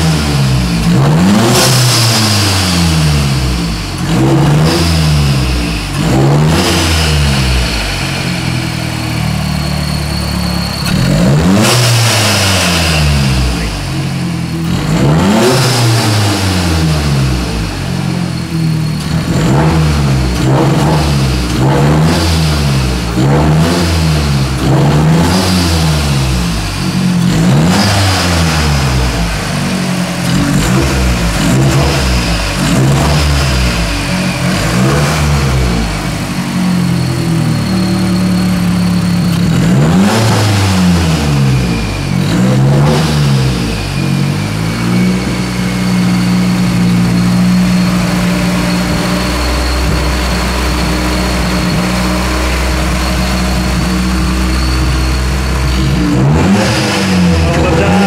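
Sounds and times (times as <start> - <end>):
car engine revving up and down: 0.0 - 58.0.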